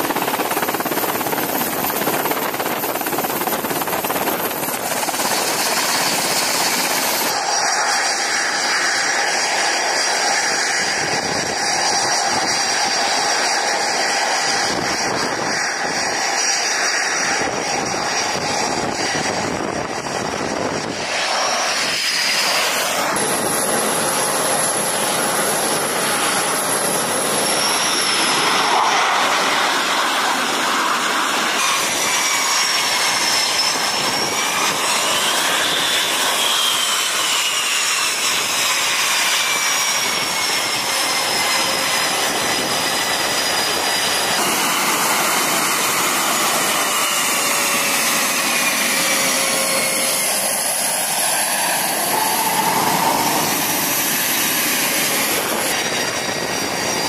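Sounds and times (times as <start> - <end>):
high turbine whine: 0.0 - 57.0
jet engines roaring: 0.0 - 57.0.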